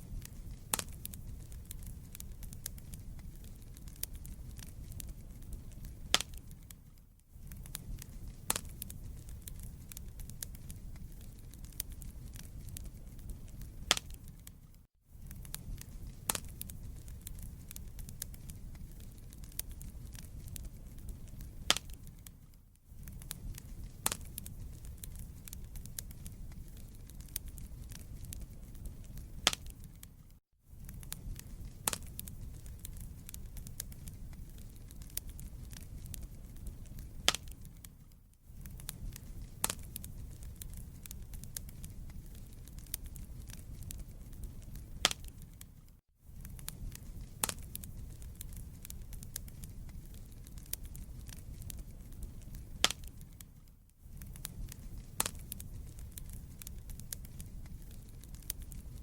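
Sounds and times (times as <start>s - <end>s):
fire crackling and popping: 0.0s - 59.0s
fire low rumble: 0.0s - 59.0s.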